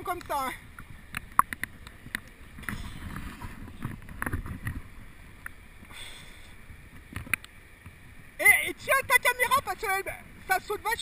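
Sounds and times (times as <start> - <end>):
water sloshing and lapping: 0.0 - 11.0.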